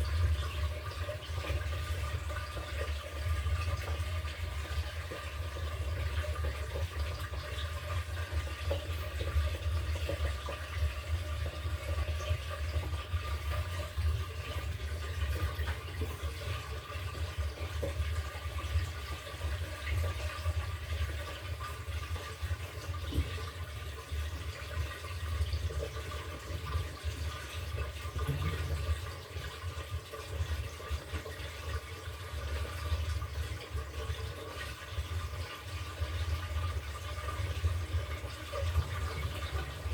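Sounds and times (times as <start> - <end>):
rushing water in washing machine: 0.0 - 39.9
washing machine low hum: 0.0 - 39.9.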